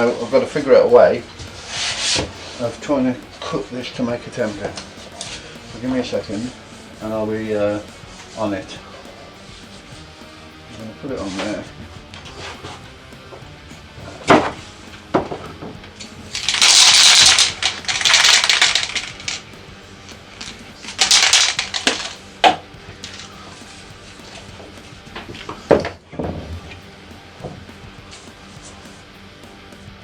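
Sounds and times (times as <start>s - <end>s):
hissing noise: 0.0s - 30.0s.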